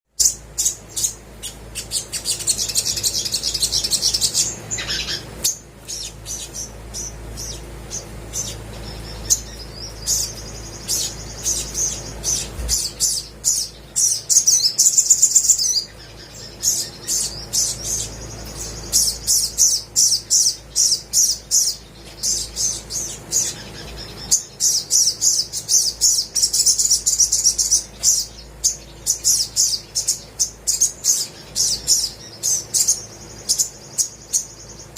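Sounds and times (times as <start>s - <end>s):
bird chirping and trilling: 0.1s - 34.9s.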